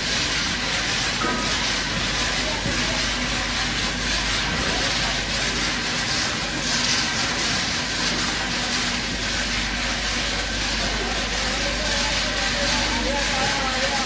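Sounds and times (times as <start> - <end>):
foundry machinery din: 0.0 - 14.0.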